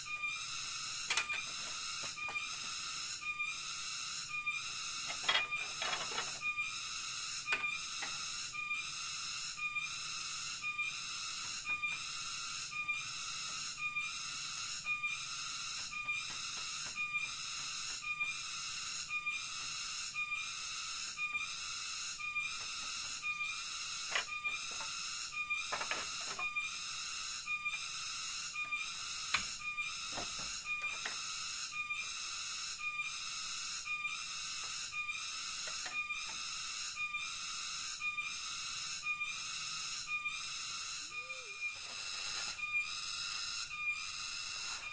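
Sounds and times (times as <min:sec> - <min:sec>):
cicadas shrilling: 0:00.0 - 0:44.9.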